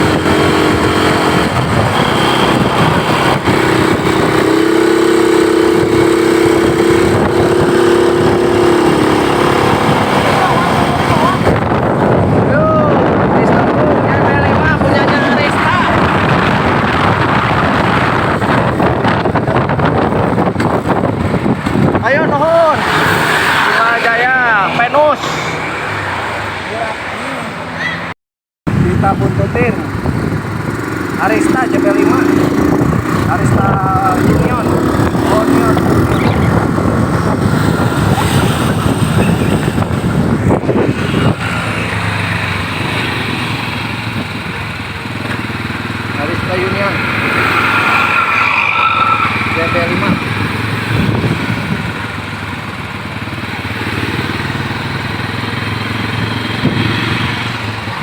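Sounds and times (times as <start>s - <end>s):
wind on microphone: 0.0s - 24.2s, 28.7s - 58.0s
moving road vehicle: 0.0s - 58.0s.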